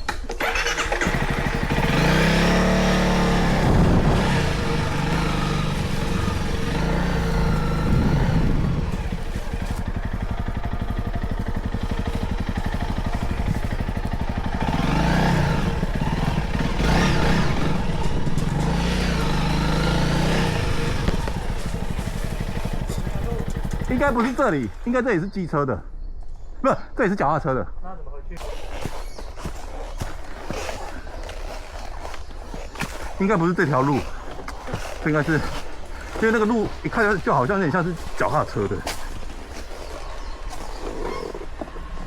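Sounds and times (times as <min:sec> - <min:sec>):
motorcycle engine revving: 0:00.0 - 0:24.8, 0:28.4 - 0:42.0.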